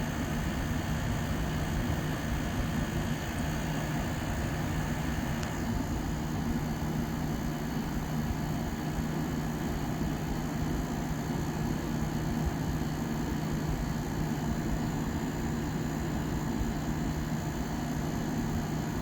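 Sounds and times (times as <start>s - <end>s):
air conditioner fan noise: 0.0s - 19.0s
steady low hum: 0.0s - 19.0s.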